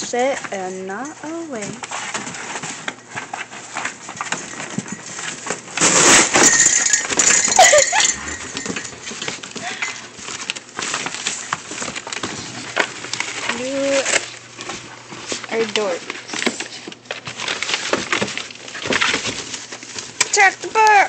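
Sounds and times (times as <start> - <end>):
scratching and rustling on cardboard: 0.0 - 6.5, 8.8 - 21.0.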